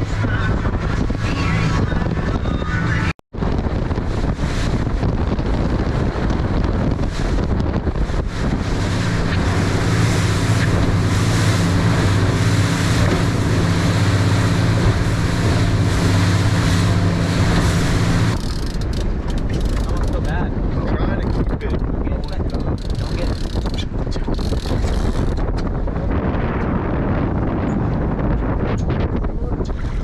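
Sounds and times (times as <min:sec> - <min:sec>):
boat engine humming: 0:00.0 - 0:30.0
water rushing along hull: 0:00.0 - 0:30.0
wind noise on microphone: 0:00.0 - 0:30.0.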